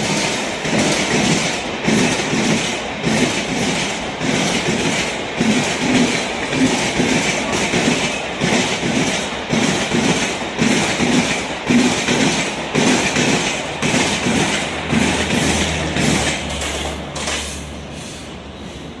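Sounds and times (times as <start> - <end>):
train wheels clattering over rail joints: 0.0 - 17.7.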